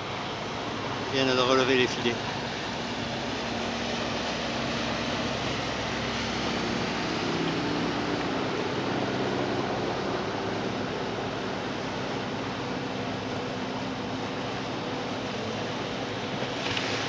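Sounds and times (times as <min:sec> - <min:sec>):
boat engines running: 0:00.0 - 0:17.0
rush of wind and water: 0:00.0 - 0:17.0.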